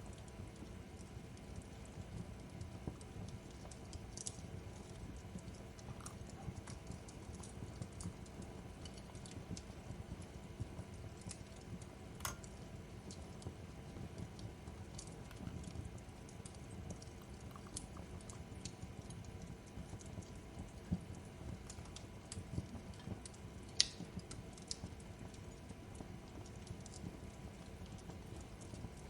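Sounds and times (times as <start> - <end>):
wood fire crackling: 0.0 - 29.0
fire pops and snaps: 0.1 - 29.0.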